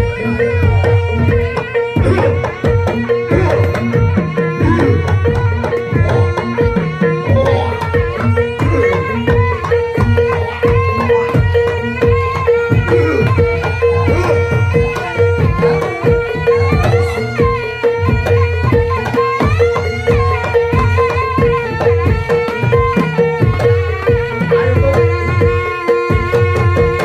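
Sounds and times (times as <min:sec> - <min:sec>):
hand drums fast rhythm: 0:00.0 - 0:27.0
pitched gamelan melody: 0:00.0 - 0:27.0.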